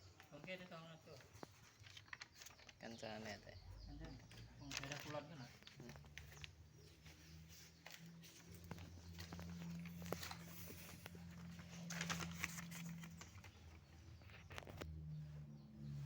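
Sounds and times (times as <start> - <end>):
scratchy crackles and clicks: 0.0 - 3.4, 4.0 - 15.0.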